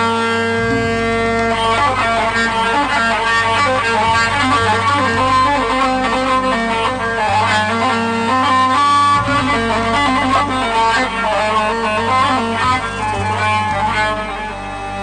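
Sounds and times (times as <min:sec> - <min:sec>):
low bass line: 0:00.0 - 0:15.0
plucked guitar-like lead: 0:00.0 - 0:15.0.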